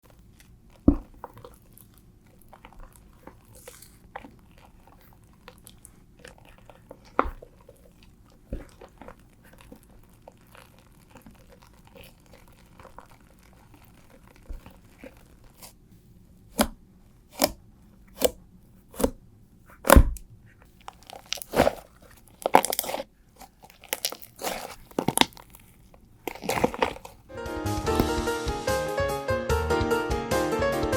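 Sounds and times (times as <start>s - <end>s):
slime crackling and squishing: 0.0s - 28.3s.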